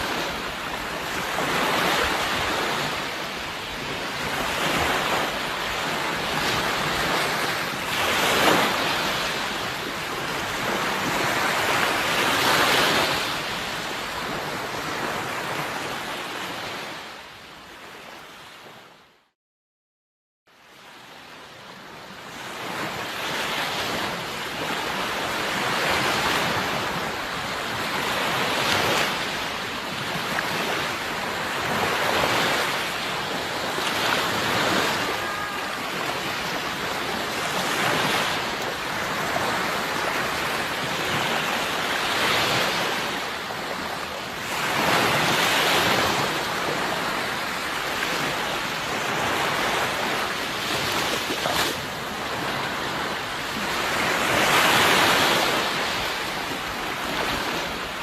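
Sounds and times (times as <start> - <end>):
sea waves washing in: 0.0 - 18.9, 20.7 - 58.0.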